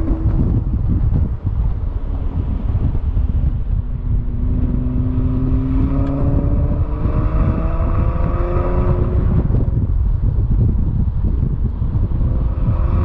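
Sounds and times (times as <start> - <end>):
car engine accelerating: 0.0 - 13.0
road rumble: 0.0 - 13.0
wind on microphone: 0.0 - 13.0.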